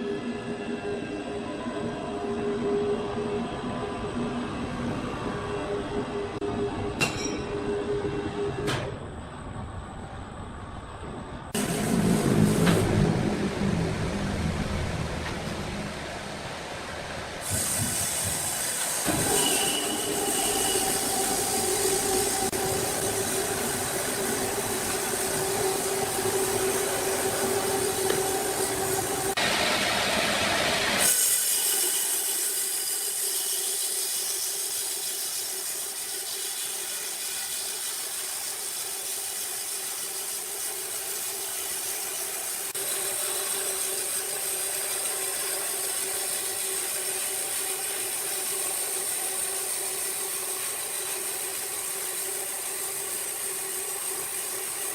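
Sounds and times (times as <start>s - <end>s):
sawmill machinery whine: 0.0s - 8.9s, 11.6s - 38.8s, 39.6s - 54.9s.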